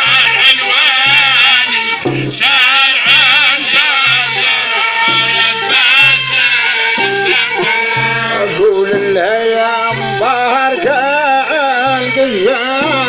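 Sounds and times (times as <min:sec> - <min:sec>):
folk melody over drone note: 0:00.0 - 0:13.0.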